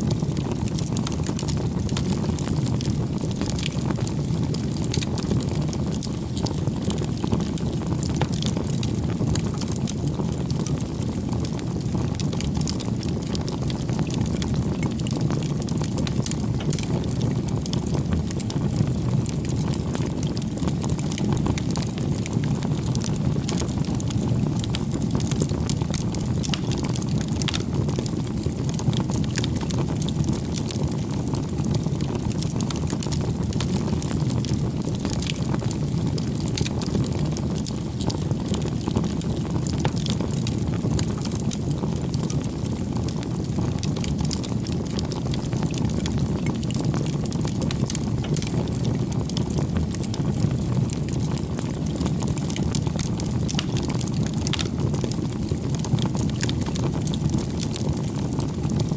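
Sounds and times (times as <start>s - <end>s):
fire crackles and pops: 0.0s - 58.9s.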